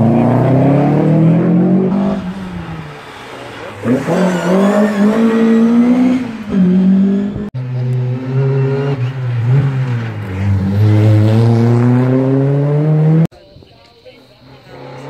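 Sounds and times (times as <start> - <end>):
rally car accelerating: 0.0 - 13.3, 14.4 - 15.0
rally car engine revving: 0.0 - 13.3, 14.4 - 15.0.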